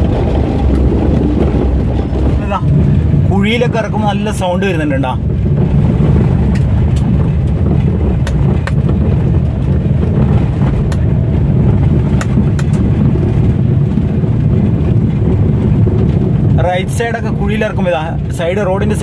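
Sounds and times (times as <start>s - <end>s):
suspension knocking and clunking: 0.0s - 19.0s
tyre and engine rumble: 0.0s - 19.0s.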